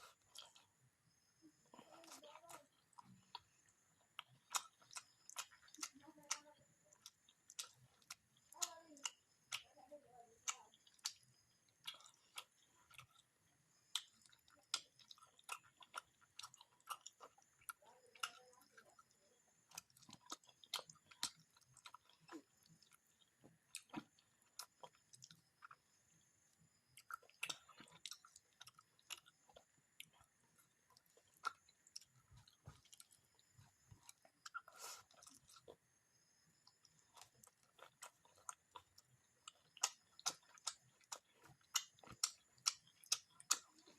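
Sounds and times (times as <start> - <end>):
person chewing wet mouth clicks: 3.0 - 9.7, 10.4 - 13.3, 13.9 - 18.8, 19.7 - 25.8, 26.9 - 35.8, 36.6 - 43.8.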